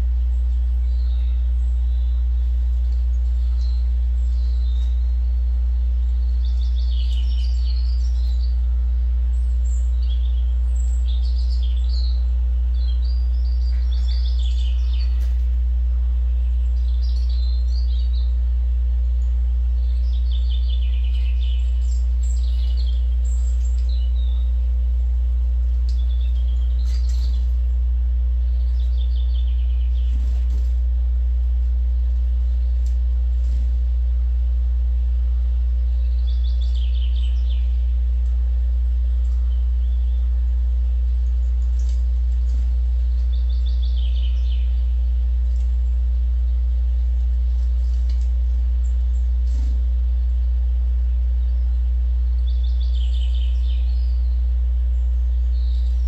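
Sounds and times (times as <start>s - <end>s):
songbirds chirping: 0.0s - 56.0s
steady low hum: 0.0s - 56.0s.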